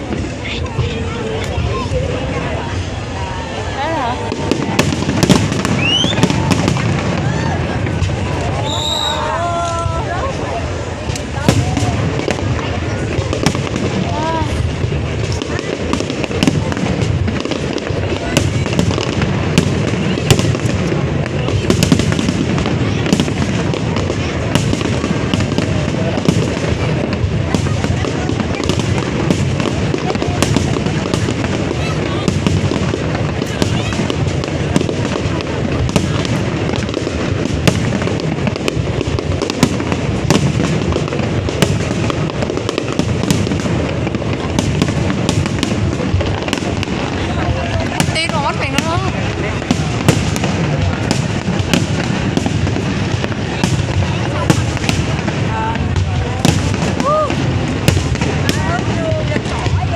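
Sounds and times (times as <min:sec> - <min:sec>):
fireworks bangs: 0:00.0 - 0:59.9
low rumble and crackle: 0:00.0 - 0:59.9.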